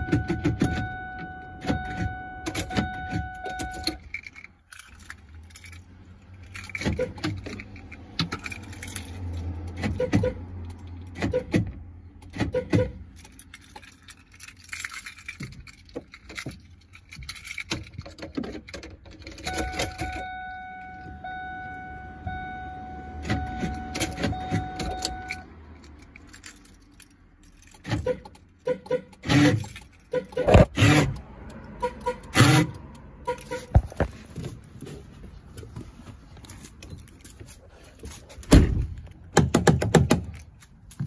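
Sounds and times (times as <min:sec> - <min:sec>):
keys jangling and clicking: 0:00.1 - 0:11.4, 0:12.2 - 0:20.4, 0:23.3 - 0:30.8, 0:31.4 - 0:39.3, 0:40.1 - 0:41.0.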